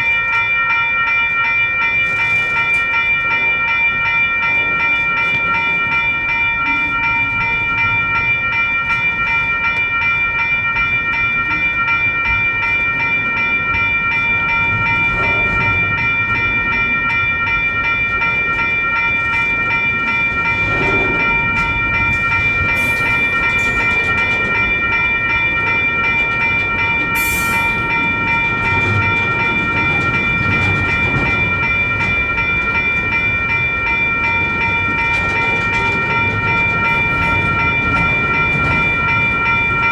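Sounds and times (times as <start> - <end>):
crossing bells ringing: 0.0 - 39.9
freight train rumbling and clattering: 1.1 - 39.9.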